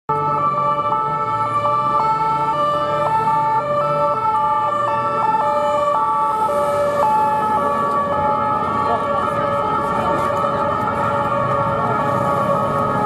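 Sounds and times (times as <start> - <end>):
two-tone police sirens: 0.1 - 13.0.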